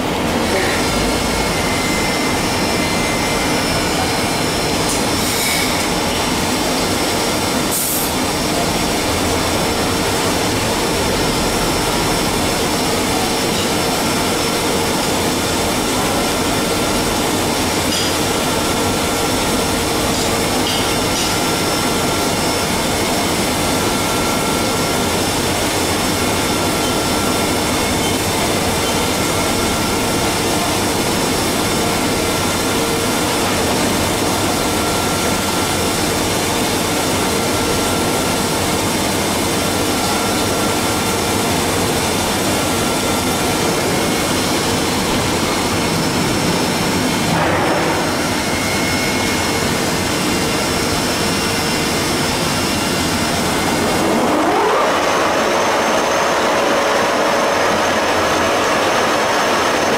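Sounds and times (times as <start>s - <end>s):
spindle whine: 0.0s - 59.9s.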